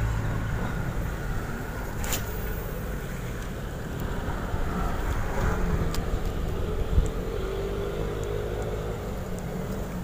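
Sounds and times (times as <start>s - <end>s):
distant traffic rumble: 0.0s - 10.0s.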